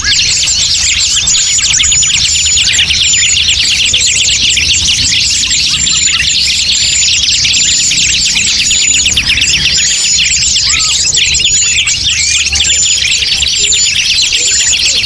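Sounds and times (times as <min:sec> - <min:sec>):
chorus of small birds chirping: 0:00.0 - 0:15.0
high bird whistles: 0:00.0 - 0:15.0.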